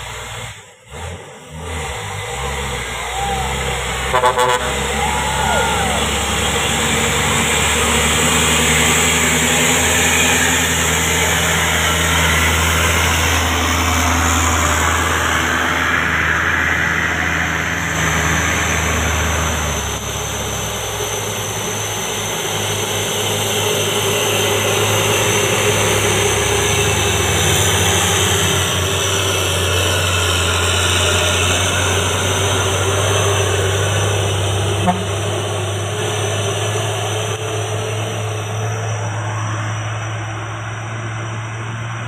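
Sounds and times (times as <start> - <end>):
truck diesel engine passing: 0.0 - 42.0.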